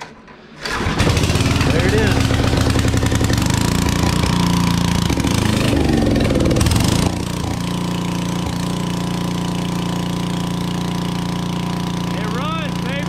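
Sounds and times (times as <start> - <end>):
generator engine running: 0.4 - 13.0.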